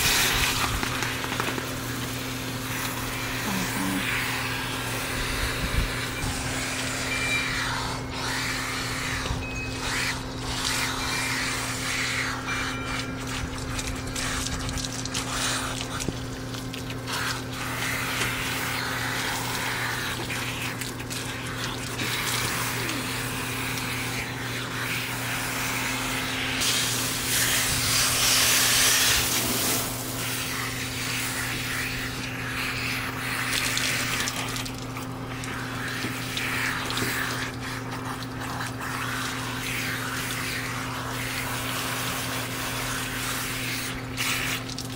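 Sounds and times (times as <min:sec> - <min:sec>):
garden hose spraying water: 0:00.0 - 0:44.9.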